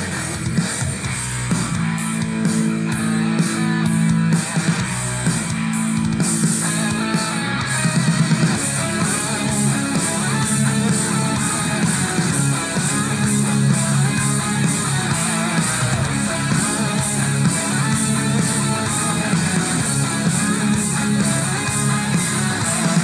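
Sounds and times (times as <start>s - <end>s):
rock music through portable speaker: 0.0s - 23.0s.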